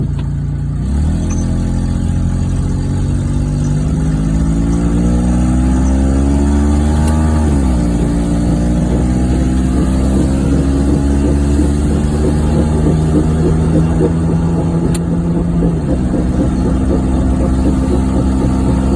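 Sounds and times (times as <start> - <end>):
car engine pulling away: 0.0 - 18.9.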